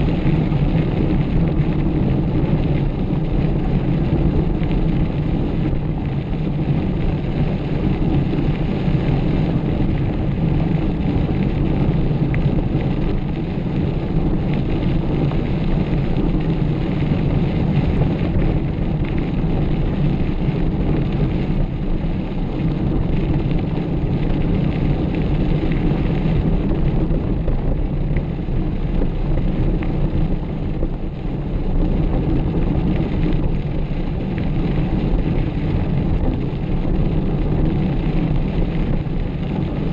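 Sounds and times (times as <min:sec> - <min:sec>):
bike tyres rolling on trail: 0:00.0 - 0:39.9
wind buffeting microphone: 0:00.0 - 0:39.9.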